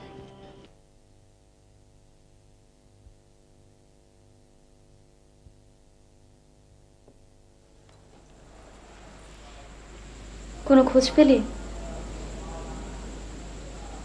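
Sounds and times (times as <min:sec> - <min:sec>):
electrical mains hum: 0:00.0 - 0:14.0
room noise hiss: 0:00.0 - 0:14.0.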